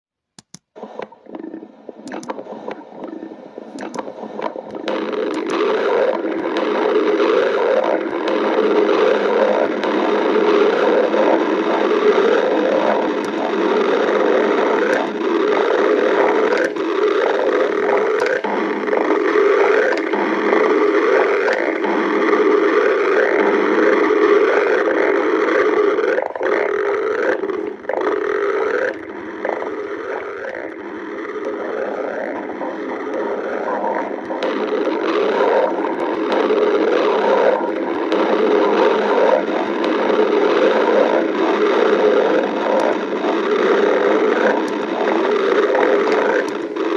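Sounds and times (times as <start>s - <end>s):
stomach growling: 0.8s - 46.9s.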